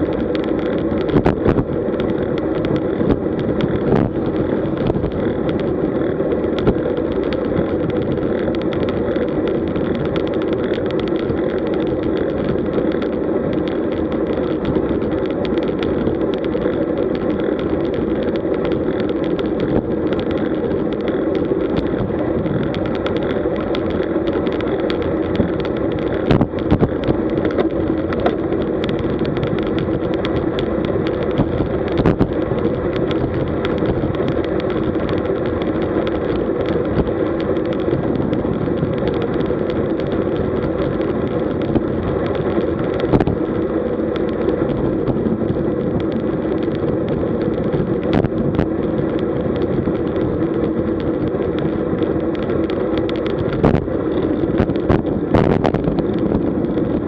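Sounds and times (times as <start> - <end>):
tyres on road: 0.0 - 57.0
wind noise: 0.0 - 57.0.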